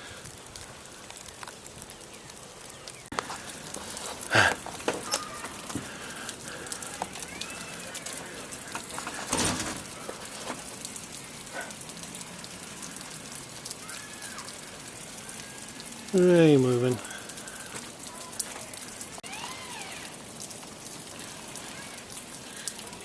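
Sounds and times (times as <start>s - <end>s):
ice and water drops falling: 0.0s - 23.0s.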